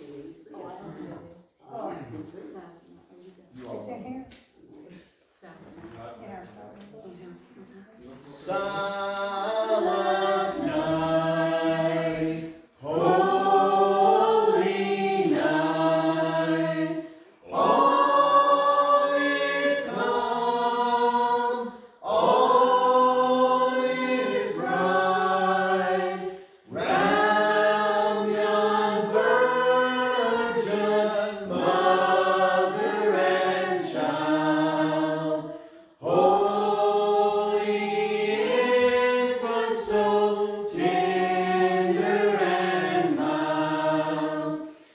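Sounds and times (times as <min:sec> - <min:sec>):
group singing a carol: 0:08.0 - 0:44.9.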